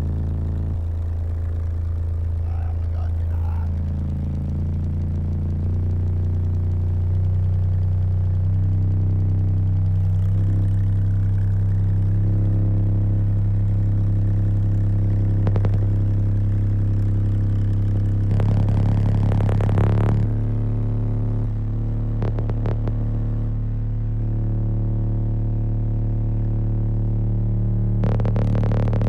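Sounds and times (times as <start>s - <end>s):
subwoofer bass test tone: 0.0s - 29.0s.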